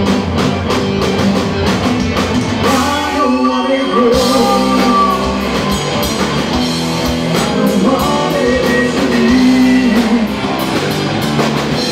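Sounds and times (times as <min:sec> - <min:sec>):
live rock band playing: 0:00.0 - 0:11.9.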